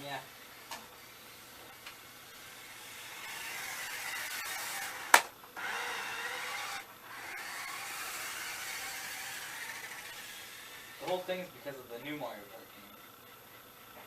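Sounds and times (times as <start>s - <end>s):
toy car motor whirring: 0.0s - 12.9s.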